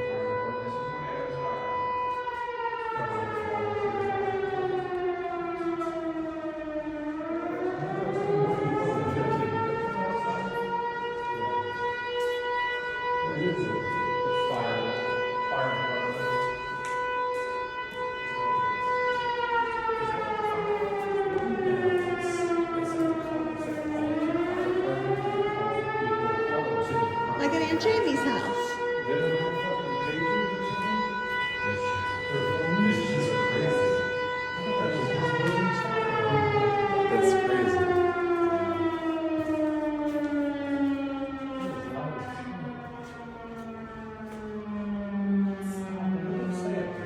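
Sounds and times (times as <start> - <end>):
fire siren wailing: 0.0 - 47.0.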